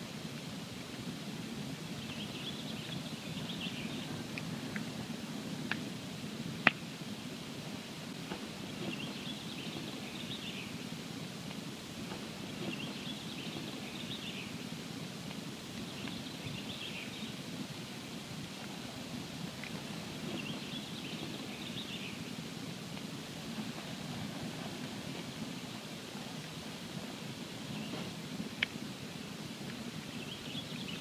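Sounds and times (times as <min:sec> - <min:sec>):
campfire crackling and hissing: 0:00.0 - 0:31.0.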